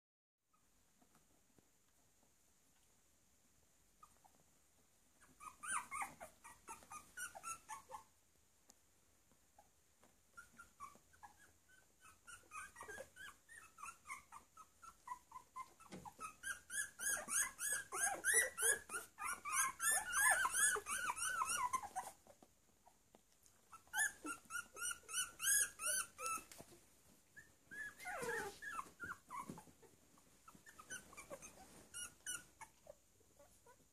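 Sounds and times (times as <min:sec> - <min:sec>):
puppies whimpering and squeaking: 0:05.2 - 0:08.2, 0:09.6 - 0:33.9.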